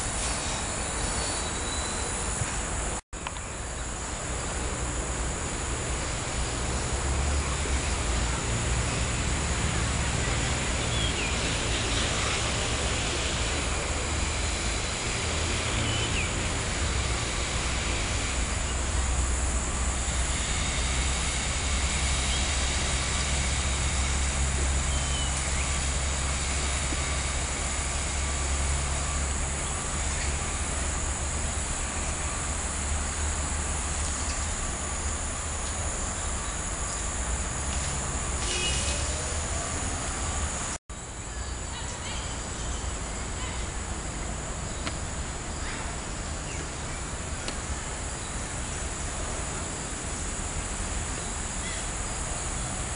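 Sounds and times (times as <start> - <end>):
high-pitched insect drone: 0.0 - 52.9.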